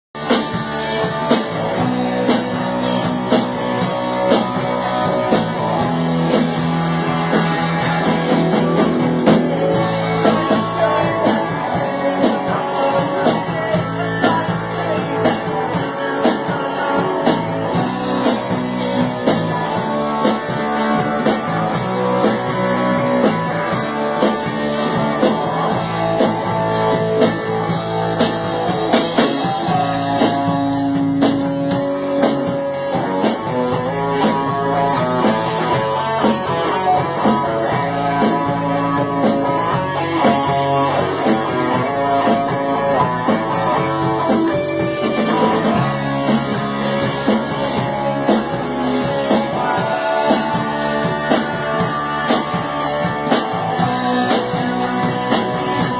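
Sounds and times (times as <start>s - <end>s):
electric guitar: 0.1s - 55.9s
rock band playing: 0.1s - 55.9s
drum kit steady beat: 0.2s - 55.9s.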